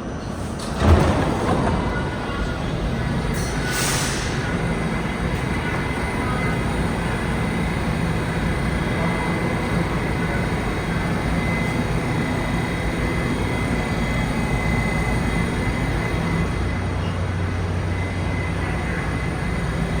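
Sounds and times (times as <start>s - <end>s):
subway car rumble and hiss: 0.0s - 20.0s.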